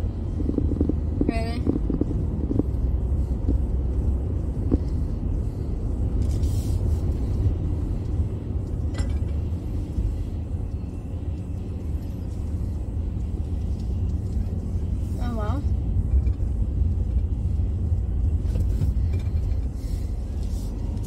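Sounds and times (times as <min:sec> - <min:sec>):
truck engine rumble from inside: 0:00.0 - 0:21.0.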